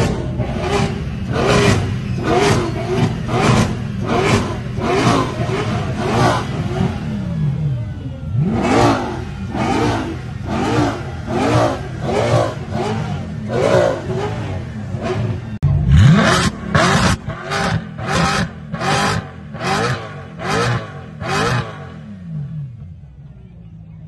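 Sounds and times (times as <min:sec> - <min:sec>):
car engine revving: 0:00.0 - 0:23.3.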